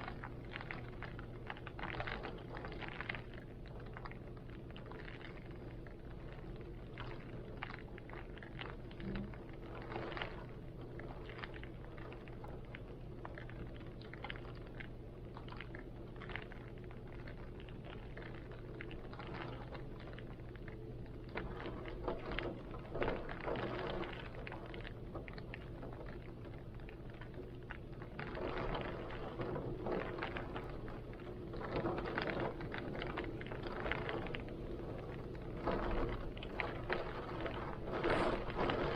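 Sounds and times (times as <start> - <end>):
rain tapping and dripping: 0.0 - 38.9.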